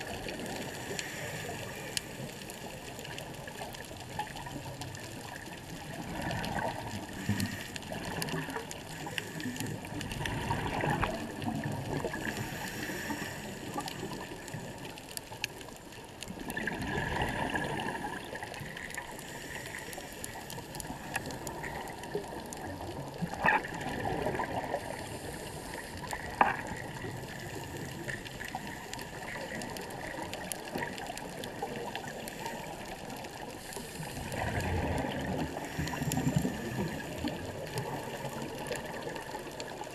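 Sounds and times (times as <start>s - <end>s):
underwater breath bubbling: 0.0s - 3.7s, 4.3s - 15.0s, 16.3s - 39.8s.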